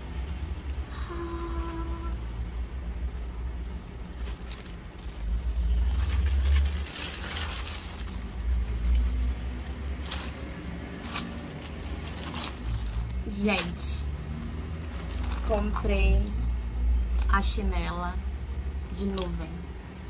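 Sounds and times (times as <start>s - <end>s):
plastic wrapping rustling: 0.0s - 17.4s
steady low rumble: 0.0s - 20.0s.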